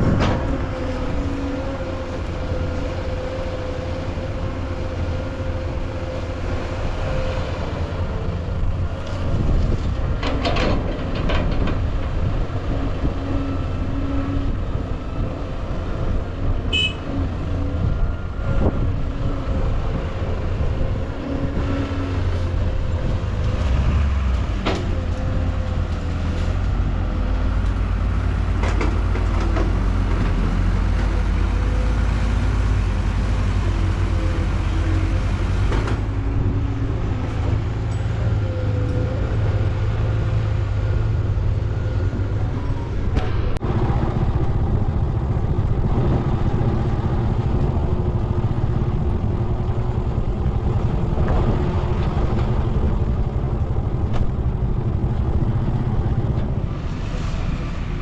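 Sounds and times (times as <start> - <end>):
diesel machinery engine rumble: 0.0 - 58.0.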